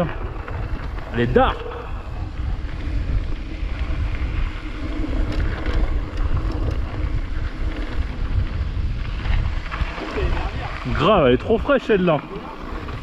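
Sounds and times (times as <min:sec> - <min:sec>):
tyres rumbling over rocky trail: 0:00.0 - 0:13.0
wind buffeting microphone: 0:00.0 - 0:13.0.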